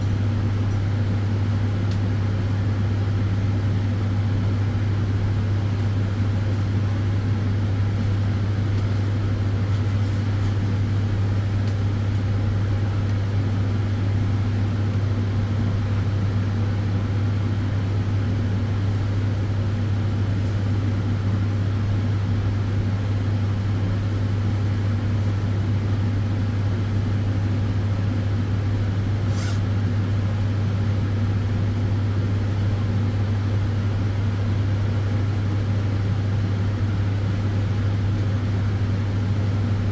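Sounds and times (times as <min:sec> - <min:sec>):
cooling fans rushing: 0:00.0 - 0:39.9.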